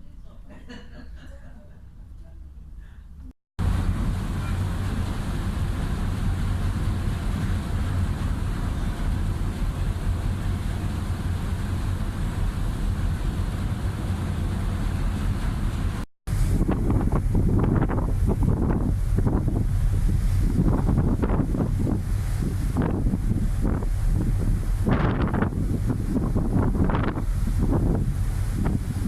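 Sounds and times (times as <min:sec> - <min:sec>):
ferry engines droning: 0:03.6 - 0:29.0
wind and water rushing: 0:03.6 - 0:29.0.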